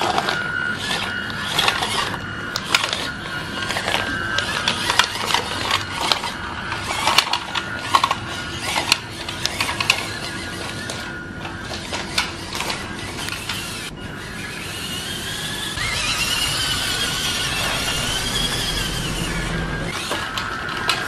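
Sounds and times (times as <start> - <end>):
small electric motor whirring: 0.0 - 21.0.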